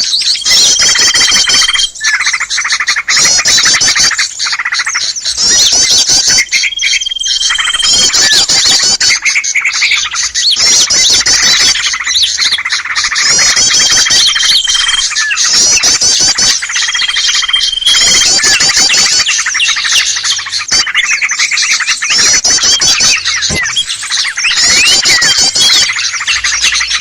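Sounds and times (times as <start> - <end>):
songbirds chirping and chattering: 0.0 - 27.0.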